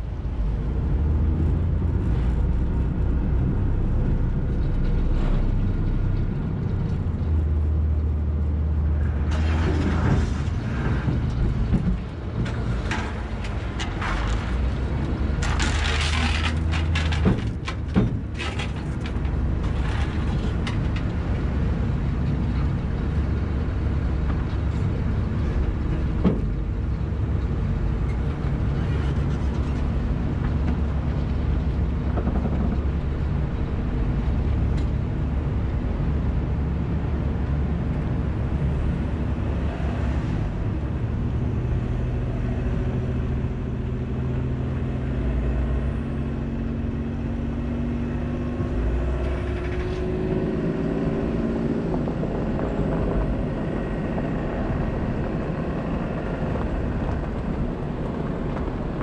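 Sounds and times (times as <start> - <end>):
ferry engine humming: 0.0 - 59.0.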